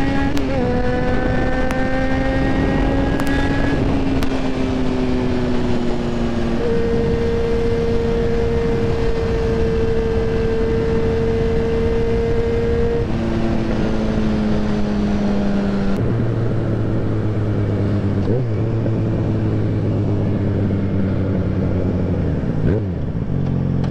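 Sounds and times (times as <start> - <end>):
heavy wind rush: 0.0 - 23.9
motorcycle engine running: 0.0 - 23.9.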